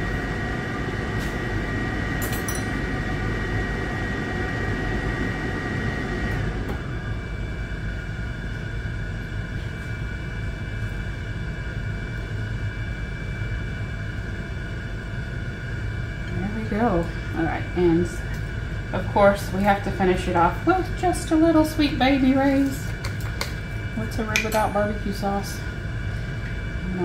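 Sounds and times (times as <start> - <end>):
electric fan hum with whine: 0.0 - 27.0.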